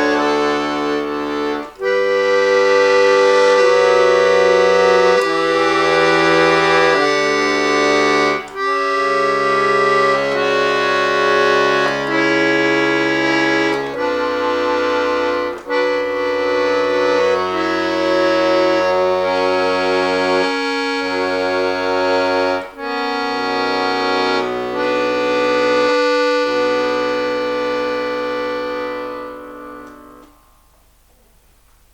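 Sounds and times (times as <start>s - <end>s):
button accordion playing chords: 0.0s - 30.7s.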